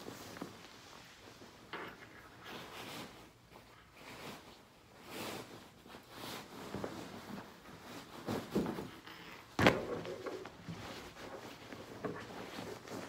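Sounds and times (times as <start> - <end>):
pillows and bedding rustling: 0.0 - 13.0.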